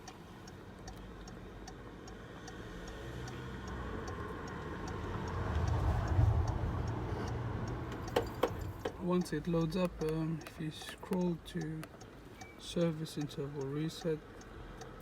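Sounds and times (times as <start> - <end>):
light regular ticking: 0.0 - 15.0.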